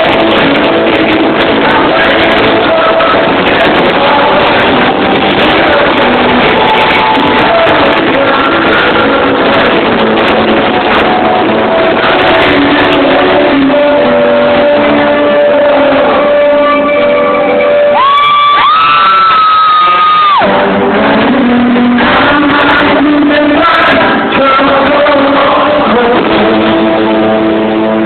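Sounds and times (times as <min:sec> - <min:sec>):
live band music: 0:00.0 - 0:28.0.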